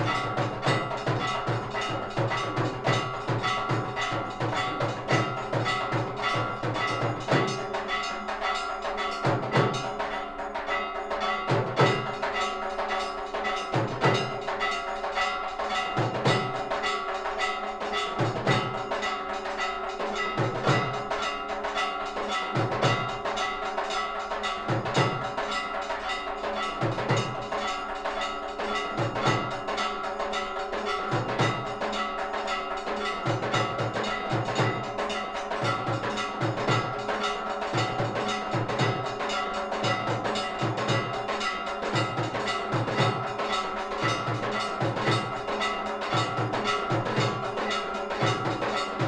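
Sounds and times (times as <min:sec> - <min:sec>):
bells ringing and clanging: 0:00.0 - 0:49.0.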